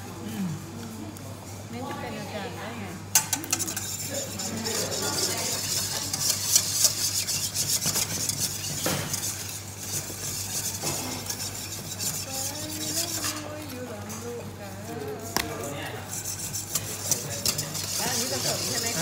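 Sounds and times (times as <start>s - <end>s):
wire whisk scraping metal bowl: 3.1s - 19.0s.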